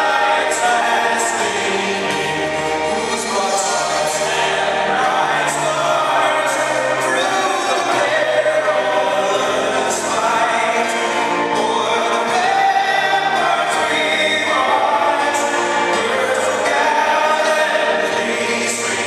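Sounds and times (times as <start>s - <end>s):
choir singing long notes: 0.0s - 19.0s.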